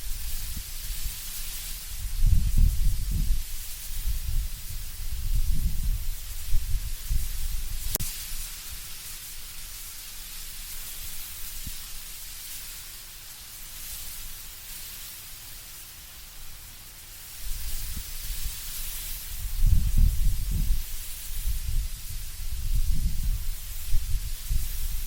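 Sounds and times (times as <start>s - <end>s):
leaves rustling: 0.0s - 25.0s
wind through trees: 0.0s - 25.0s.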